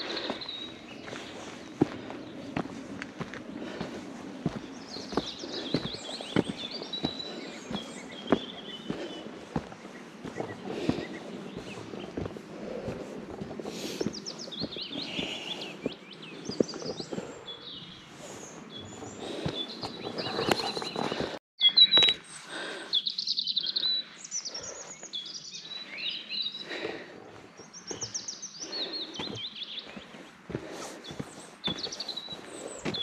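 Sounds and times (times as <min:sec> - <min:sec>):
footsteps on forest trail: 0:00.0 - 0:33.0
songbirds chirping and trilling: 0:00.0 - 0:33.0.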